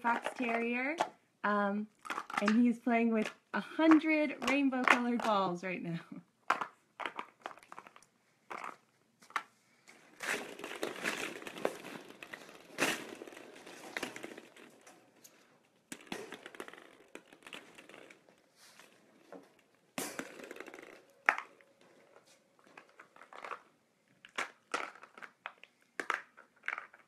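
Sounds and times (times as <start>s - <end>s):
plastic balls crinkling and clicking: 0.0s - 27.0s.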